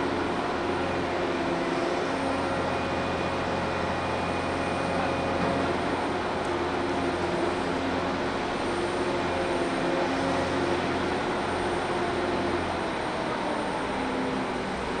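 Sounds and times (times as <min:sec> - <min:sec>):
heavy machinery running: 0:00.0 - 0:15.0.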